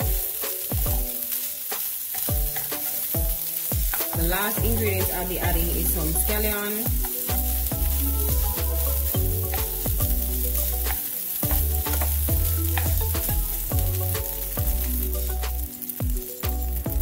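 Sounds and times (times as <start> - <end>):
music with strong bass beat: 0.0 - 1.2, 2.3 - 17.0
rice sizzling in a pan: 0.0 - 17.0
stirring in a pan: 0.0 - 17.0.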